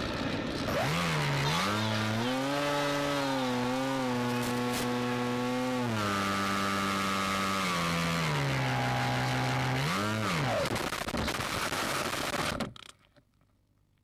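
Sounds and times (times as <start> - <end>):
electric motor whine: 0.0 - 12.6.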